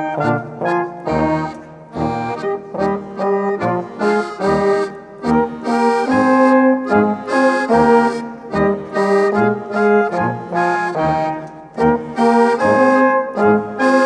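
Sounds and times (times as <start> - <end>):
accordion folk dance music: 0.0 - 14.0.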